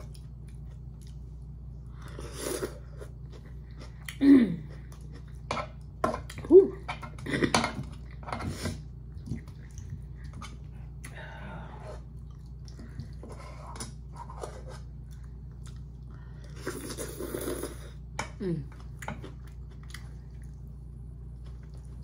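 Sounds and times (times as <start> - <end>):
person chewing noodles: 0.0 - 6.4, 7.3 - 18.1, 18.8 - 22.0.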